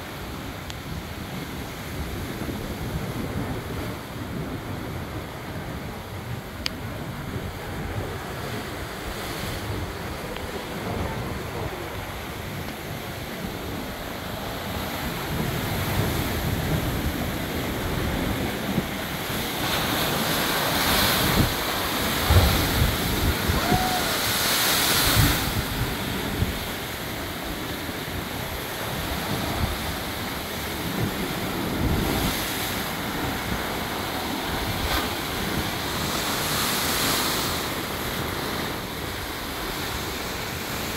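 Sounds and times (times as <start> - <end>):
heavy surf crashing: 0.0 - 40.9
waves booming against rock: 0.0 - 40.9
wind buffeting microphone: 0.0 - 40.9.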